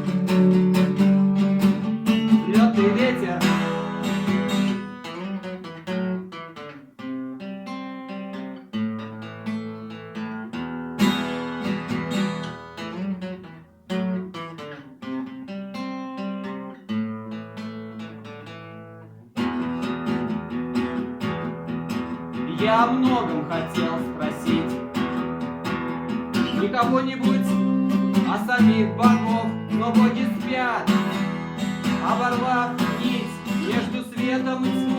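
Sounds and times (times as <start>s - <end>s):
acoustic guitar playing: 0.0s - 34.9s.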